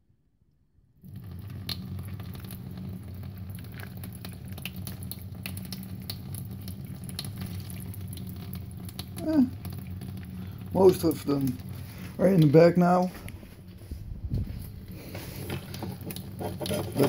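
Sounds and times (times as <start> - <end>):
tap water splashing into sink: 1.1 - 13.2, 15.2 - 17.0.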